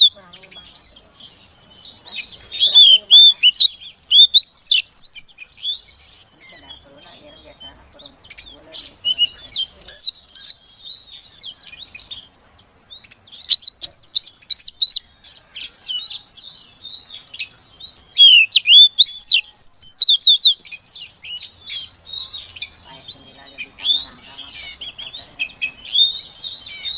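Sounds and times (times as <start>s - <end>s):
bird high chirps and whistles: 0.0s - 26.9s.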